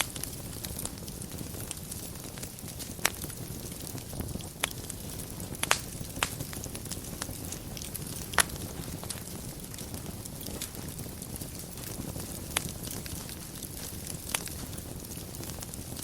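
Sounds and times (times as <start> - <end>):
fire crackling pops: 0.0 - 16.0
fire rushing: 0.0 - 16.0.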